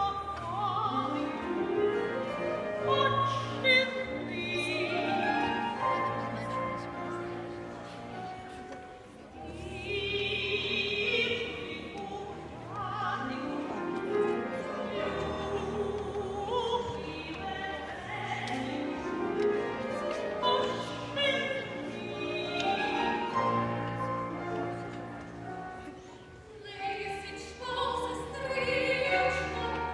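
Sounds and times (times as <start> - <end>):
operatic singing with vibrato: 0.0 - 6.5, 9.4 - 25.2, 26.5 - 29.9
low instrumental accompaniment: 0.0 - 29.9.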